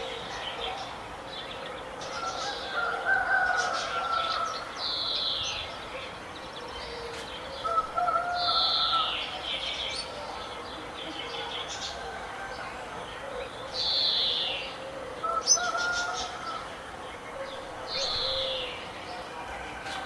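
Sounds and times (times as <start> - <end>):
birds calling and chirping: 0.0 - 20.0.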